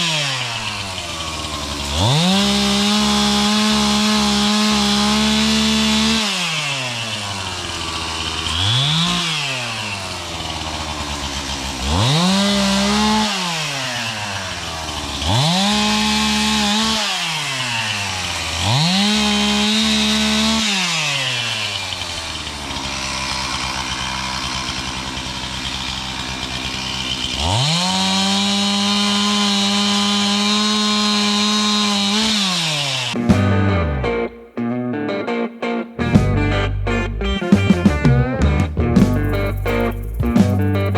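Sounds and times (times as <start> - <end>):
chainsaw revving and idling: 0.0 - 34.2, 39.0 - 40.9.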